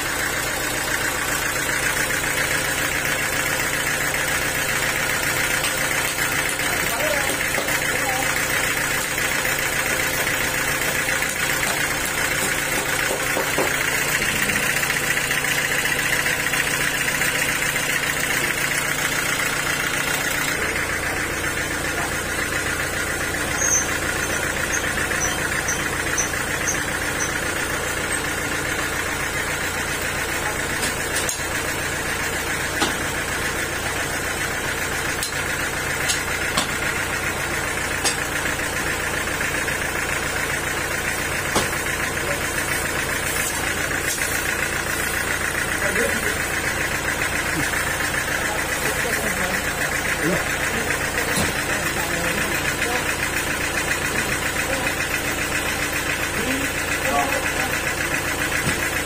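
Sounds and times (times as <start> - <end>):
band sawmill cutting log: 0.1 - 59.0.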